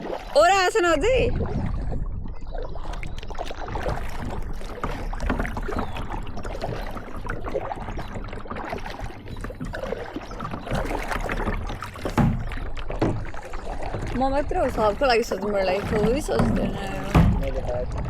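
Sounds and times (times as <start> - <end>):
water splashing around kayaks: 0.0 - 18.0.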